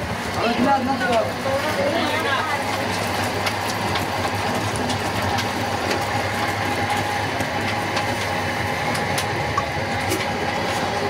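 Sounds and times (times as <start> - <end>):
machine drum humming: 0.0 - 11.0.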